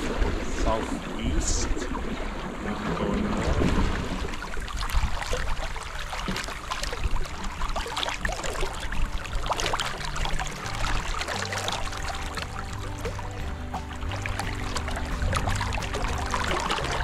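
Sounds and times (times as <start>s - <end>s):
water splashing along boat hull: 0.0s - 17.0s.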